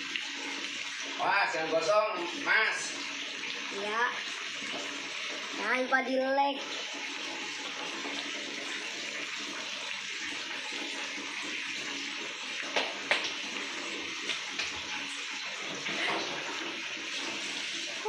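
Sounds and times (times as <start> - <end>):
food deep-frying in hot oil: 0.0 - 16.1.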